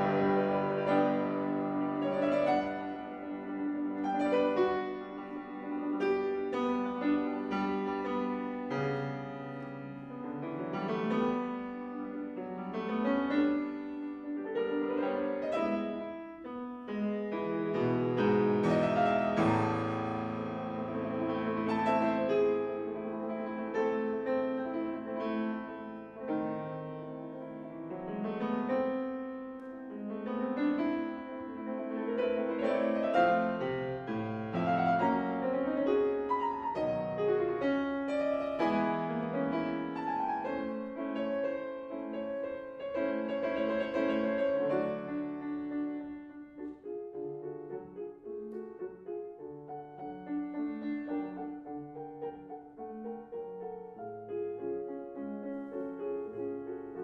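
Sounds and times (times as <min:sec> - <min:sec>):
grand piano classical piece: 0:00.0 - 0:57.0.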